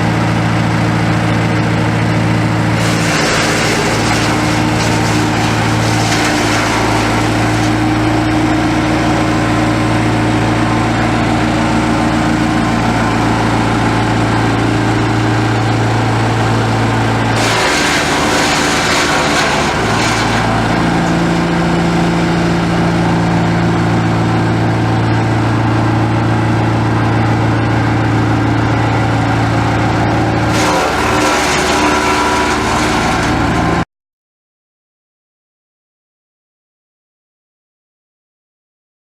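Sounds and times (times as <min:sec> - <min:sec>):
wood chipper engine running: 0:00.0 - 0:33.8.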